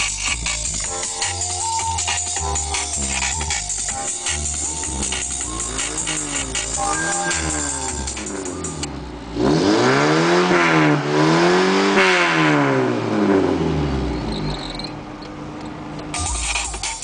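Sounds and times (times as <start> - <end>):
truck engine revving: 0.0 - 16.2.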